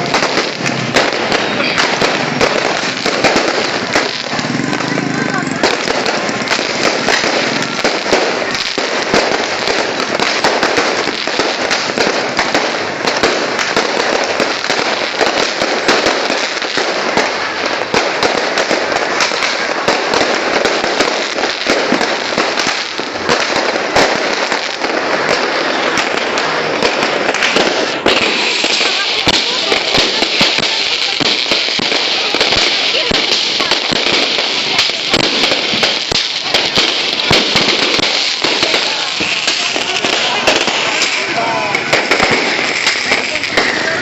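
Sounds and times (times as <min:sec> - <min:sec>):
fireworks cracking and banging: 0:00.0 - 0:44.0.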